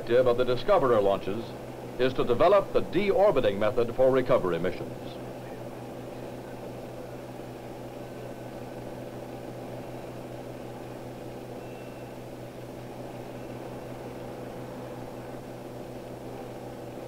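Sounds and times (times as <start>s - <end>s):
film soundtrack hum and hiss: 0.0s - 17.0s.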